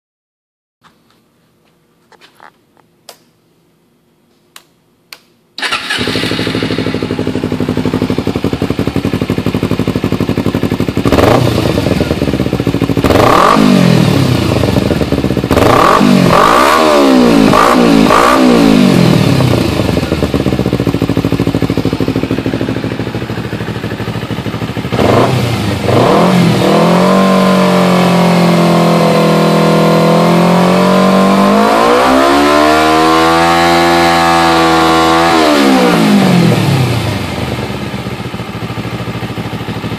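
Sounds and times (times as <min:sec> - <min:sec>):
motorcycle engine revving and idling: 0:05.6 - 0:39.9.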